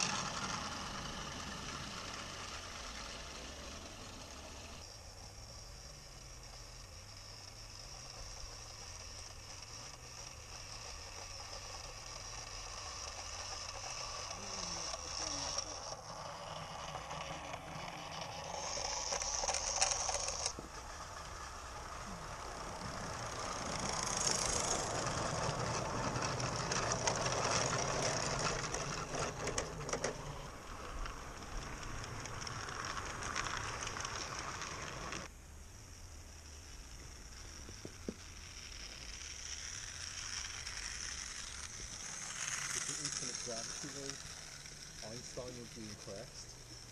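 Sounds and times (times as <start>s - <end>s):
steam hissing: 0.0s - 29.6s, 30.2s - 46.9s
model train running gear rattling: 0.0s - 46.9s.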